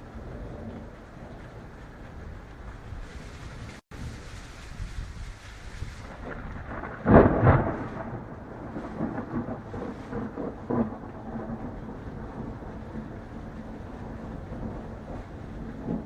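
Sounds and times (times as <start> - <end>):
rolling thunder rumble: 0.0 - 16.0
thunderclap: 0.0 - 16.0.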